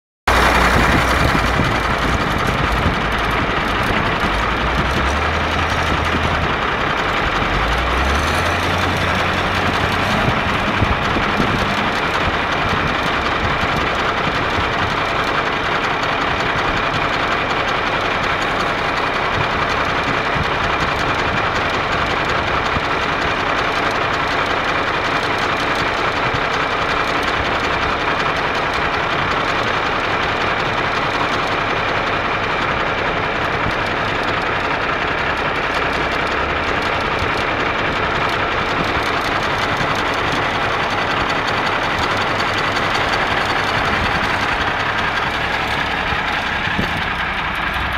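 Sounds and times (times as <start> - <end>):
truck engine idling: 0.3 - 47.9
wheel loader engine working: 0.3 - 47.9.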